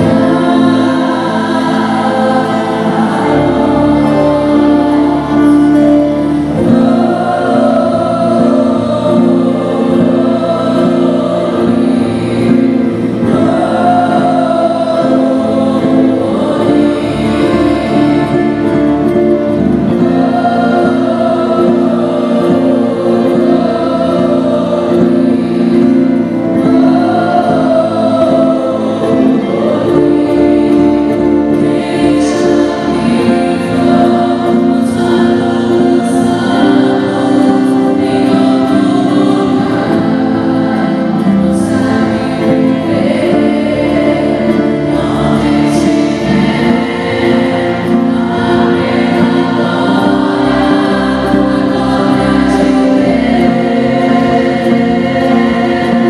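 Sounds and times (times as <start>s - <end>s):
guitars and keyboard: 0.0s - 56.0s
women's group singing gospel: 0.0s - 56.0s.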